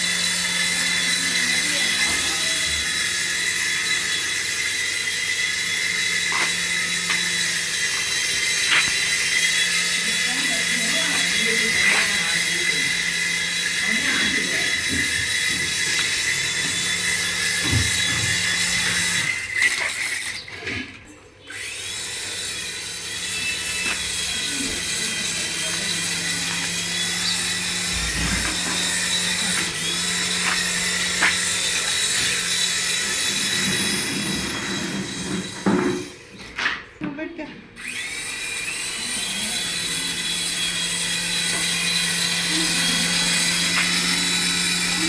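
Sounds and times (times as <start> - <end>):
toy motor whirring: 0.0 - 20.7, 21.4 - 36.4, 37.8 - 45.0.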